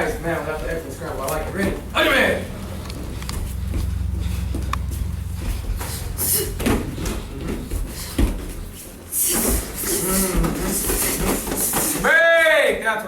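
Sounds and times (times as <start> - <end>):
feet moving on floor: 0.0 - 12.1.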